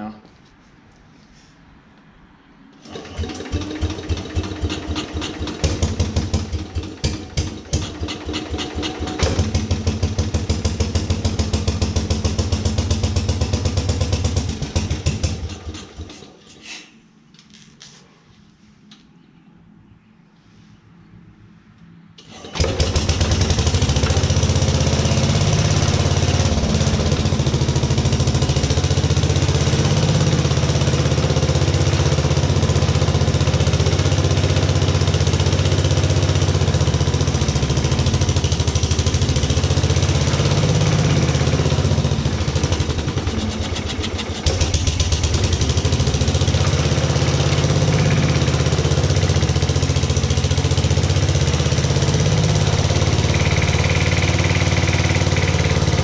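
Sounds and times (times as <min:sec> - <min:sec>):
single-cylinder engine running: 0:02.8 - 0:16.4, 0:22.2 - 0:56.0.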